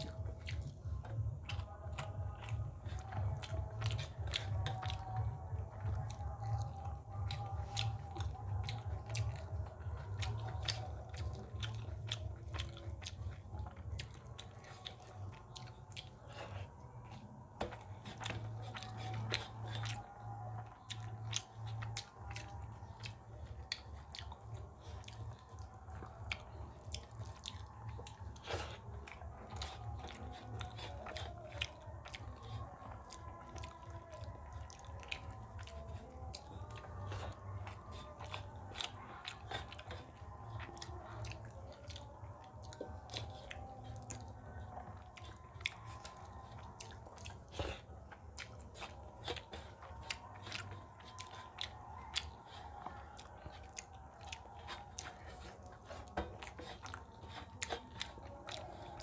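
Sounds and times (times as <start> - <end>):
fingers mixing food on metal plate: 0.0 - 59.0
person chewing with wet mouth sounds: 0.0 - 59.0.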